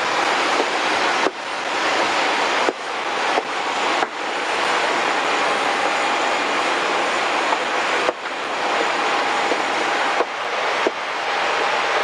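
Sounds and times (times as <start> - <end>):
aircraft cabin air noise: 0.0 - 12.0.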